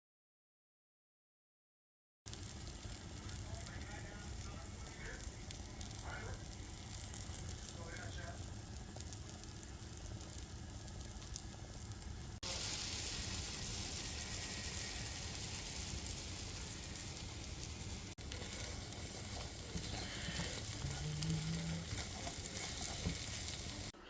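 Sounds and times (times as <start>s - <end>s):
food sizzling in a frying pan: 2.3s - 24.0s.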